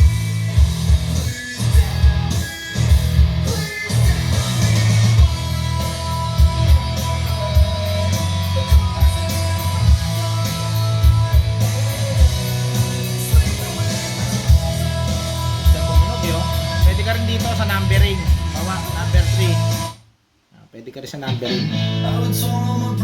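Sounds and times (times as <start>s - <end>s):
strong bass: 0.0s - 19.9s
rock music with guitar: 0.0s - 20.0s, 21.3s - 23.0s
drums: 0.0s - 23.0s.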